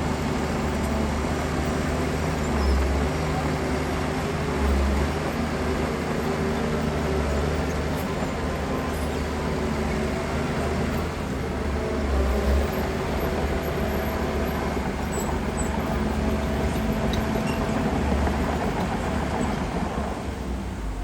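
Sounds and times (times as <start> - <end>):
heavy diesel engine rumbling: 0.0 - 21.0.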